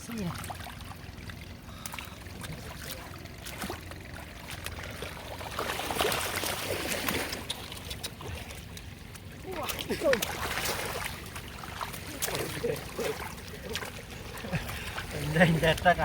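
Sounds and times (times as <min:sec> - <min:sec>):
shallow water splashing: 0:00.0 - 0:16.0.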